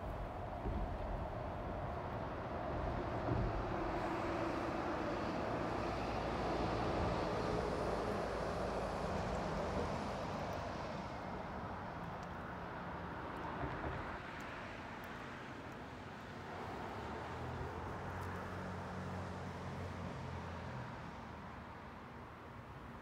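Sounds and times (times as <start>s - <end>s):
road traffic hiss: 2.0s - 23.0s.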